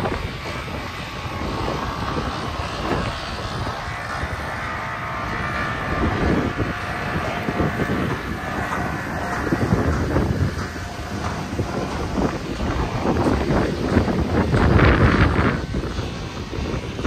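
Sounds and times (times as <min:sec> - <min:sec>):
diesel truck engine running: 0:00.0 - 0:17.0
wind buffeting microphone: 0:00.0 - 0:17.0.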